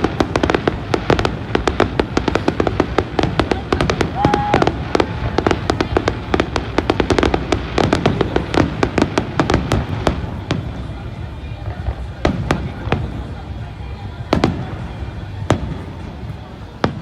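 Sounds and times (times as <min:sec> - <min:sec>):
fireworks crackling pops: 0:00.0 - 0:17.0.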